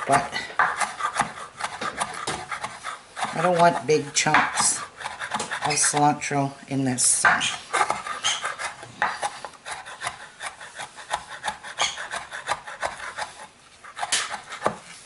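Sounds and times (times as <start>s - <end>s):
knife chopping on wooden board: 0.0s - 6.2s, 7.1s - 15.0s.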